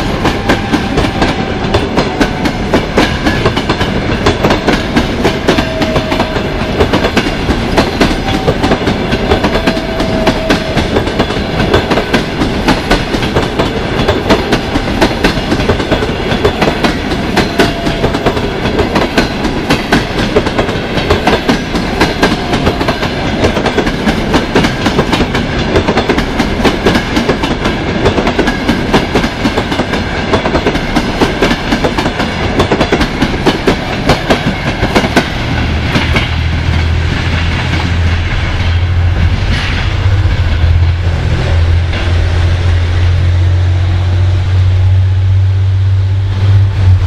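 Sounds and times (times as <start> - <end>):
train wheels clattering on rails: 0.0 - 44.0
low steady train rumble: 0.0 - 47.0.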